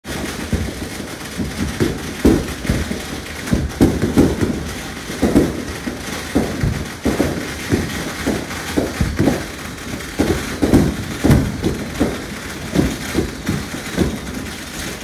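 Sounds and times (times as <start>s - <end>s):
fireworks booming and popping: 0.0s - 15.0s.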